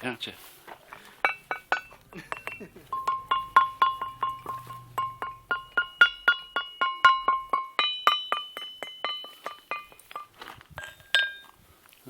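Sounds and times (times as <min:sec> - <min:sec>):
ringing rocks struck: 0:01.2 - 0:11.4.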